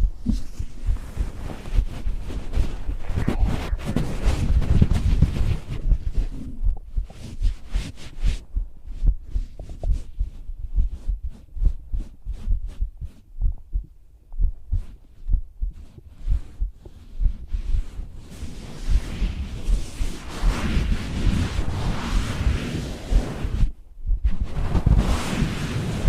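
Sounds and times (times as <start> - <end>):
faint scratchy noises: 0.0 - 13.8, 14.5 - 26.0
heartbeat thuds: 0.0 - 21.8, 23.1 - 25.2.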